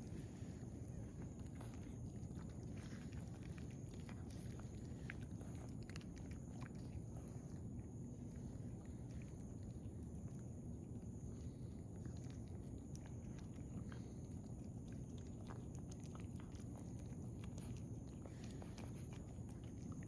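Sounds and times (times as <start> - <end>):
cats chewing wet food: 0.0 - 20.0
low background noise: 0.0 - 20.0.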